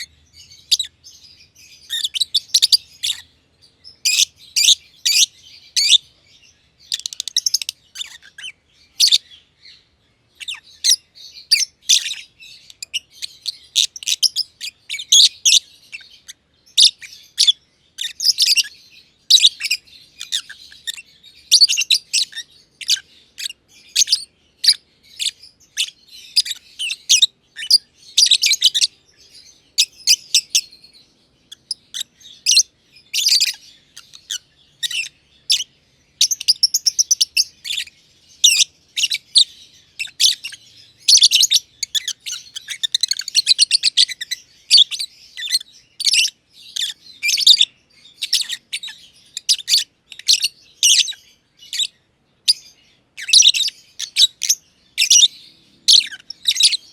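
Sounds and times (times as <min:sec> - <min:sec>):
lovebirds chirping shrilly: 0:00.0 - 0:56.9.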